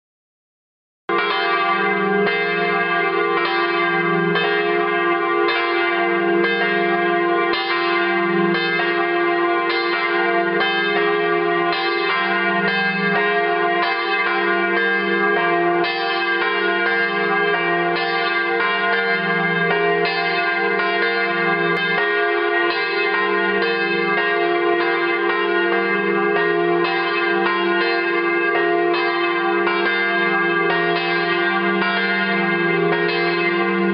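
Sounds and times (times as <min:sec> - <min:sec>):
church bells pealing: 0:01.1 - 0:33.9
deep bell tone: 0:01.1 - 0:33.9.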